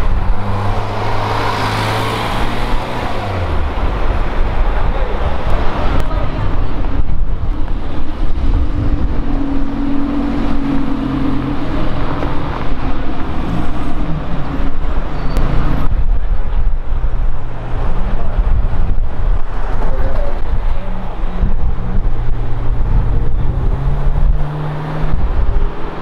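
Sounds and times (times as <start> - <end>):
general traffic noise: 0.0 - 26.0
sports car engine accelerating: 0.1 - 19.7, 20.6 - 26.0.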